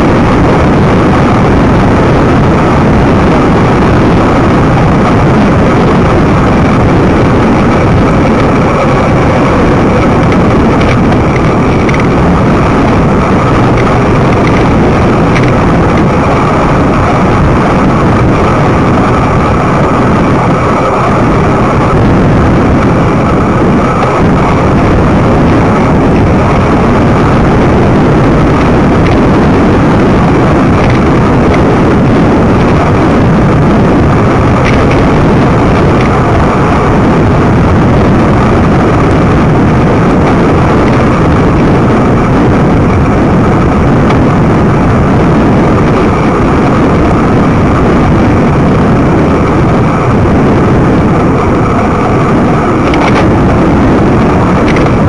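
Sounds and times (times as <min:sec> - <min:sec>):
tyres humming on road: 0:00.0 - 0:55.0
wind rumble on microphone: 0:00.0 - 0:55.0.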